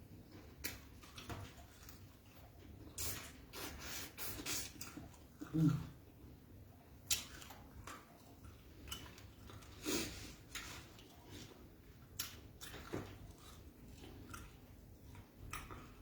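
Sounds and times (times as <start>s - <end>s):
person chewing food: 0.1s - 16.0s.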